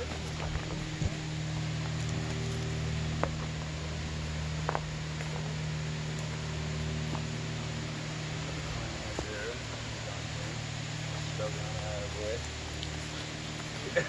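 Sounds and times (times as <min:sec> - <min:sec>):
footsteps on dirt: 0:00.0 - 0:14.0
low hum: 0:00.0 - 0:14.0.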